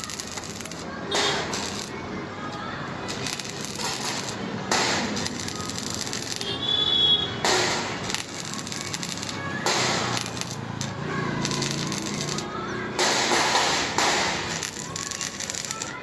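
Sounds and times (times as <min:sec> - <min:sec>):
welding crackling hiss: 0:00.0 - 0:16.0.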